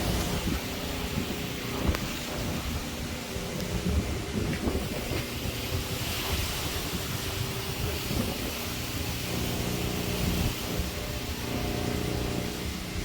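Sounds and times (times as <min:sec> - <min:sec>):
low engine hum: 0:00.0 - 0:13.0
water spray from tyres: 0:00.0 - 0:13.0.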